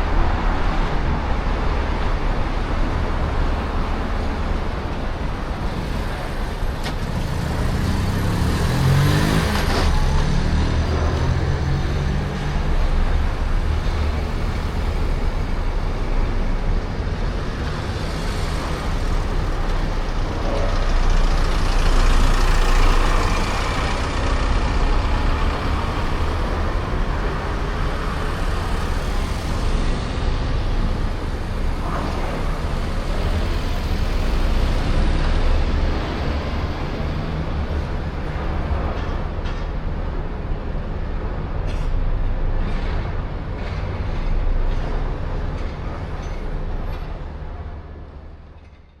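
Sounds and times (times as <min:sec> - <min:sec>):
heavy low traffic rumble: 0:00.0 - 0:48.9
passing vehicles: 0:00.0 - 0:49.0.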